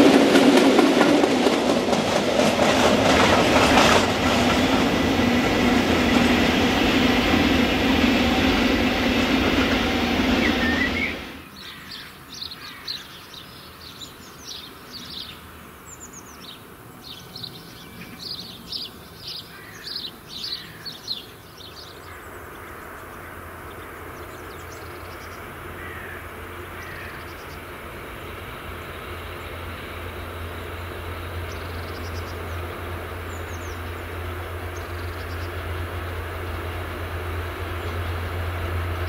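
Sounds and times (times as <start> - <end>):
distant diesel train rumble: 0.0 - 12.1, 18.0 - 39.0.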